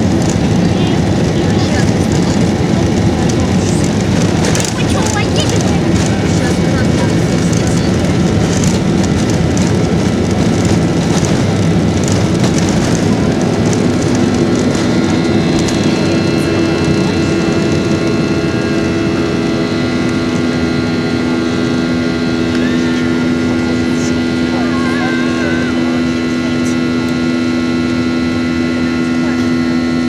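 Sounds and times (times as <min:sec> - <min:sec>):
jet engine roar in cabin: 0:00.0 - 0:30.0
rattling rumble: 0:00.0 - 0:30.0.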